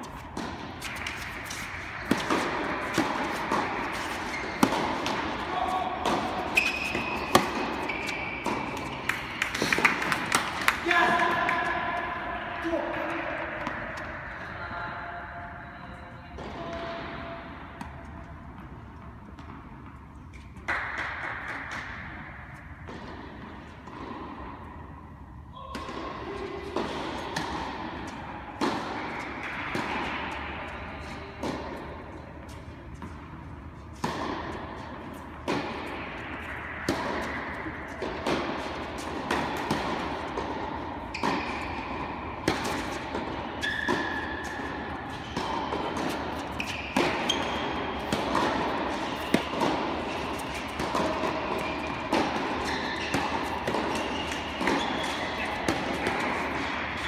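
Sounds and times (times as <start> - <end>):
tennis balls hit and bouncing: 0.0 - 14.6, 16.3 - 57.0.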